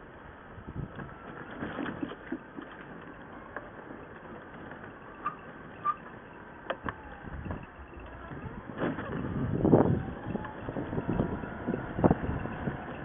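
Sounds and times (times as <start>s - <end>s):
scooter wheels rumbling on pavement: 0.0s - 13.0s.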